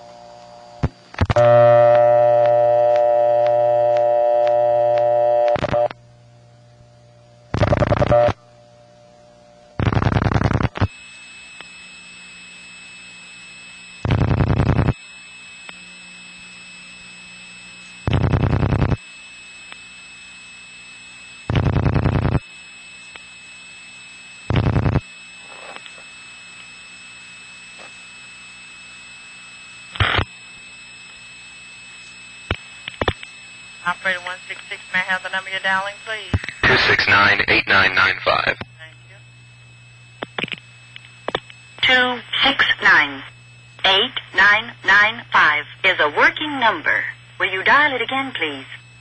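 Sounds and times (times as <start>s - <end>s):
telephone line hiss: 0.0s - 6.0s, 7.5s - 49.0s
loud buzzy telephone tone: 0.0s - 49.0s.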